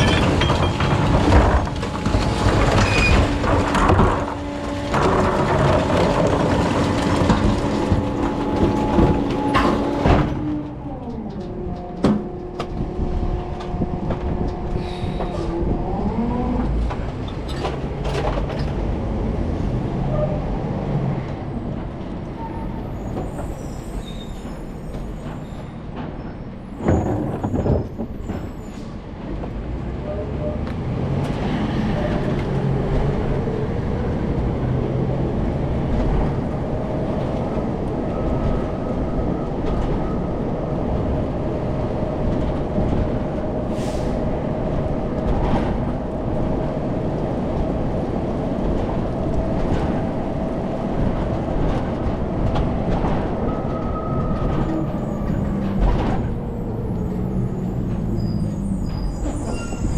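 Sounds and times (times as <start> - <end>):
garbage truck diesel engine: 0.0 - 59.9.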